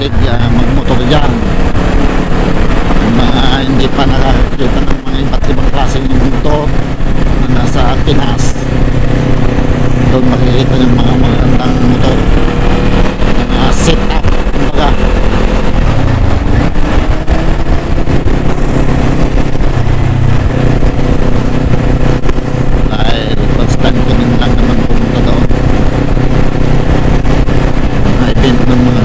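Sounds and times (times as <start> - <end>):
motorcycle engine cruising: 0.0 - 29.0
wind rumble on microphone: 0.0 - 29.0.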